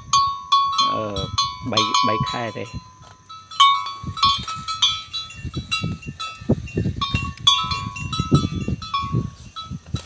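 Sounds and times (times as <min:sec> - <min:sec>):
neck bells clanking: 0:00.0 - 0:10.0.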